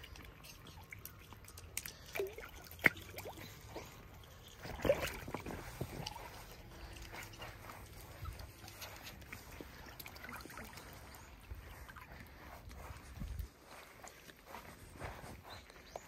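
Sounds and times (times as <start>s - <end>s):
otters eating with crunches: 0.0s - 16.0s.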